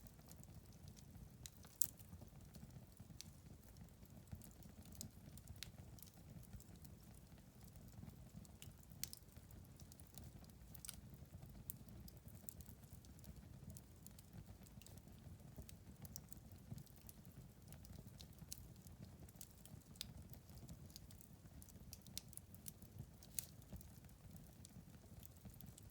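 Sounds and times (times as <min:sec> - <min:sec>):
low rumble of flames: 0:00.0 - 0:25.9
wood fire crackling and popping: 0:00.0 - 0:25.9.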